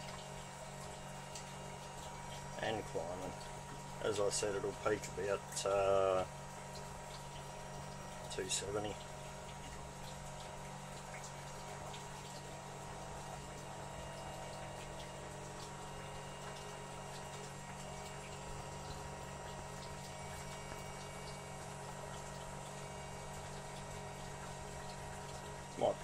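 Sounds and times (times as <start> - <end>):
constant hum: 0.0 - 26.0
water trickling into a bucket: 0.0 - 26.0.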